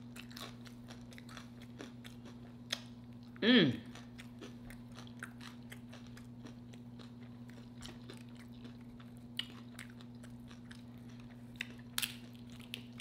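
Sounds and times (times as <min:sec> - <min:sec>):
chewing crunchy chips: 0:00.0 - 0:13.0.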